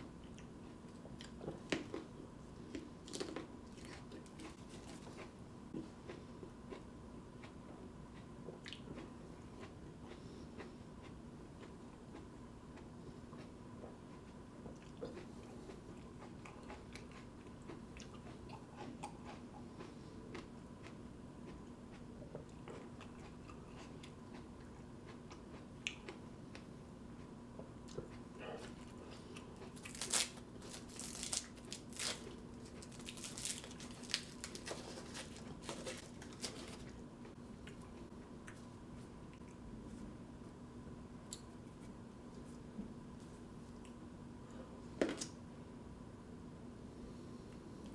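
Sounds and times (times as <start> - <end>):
chewing raw tomatillo: 0.1 - 39.8.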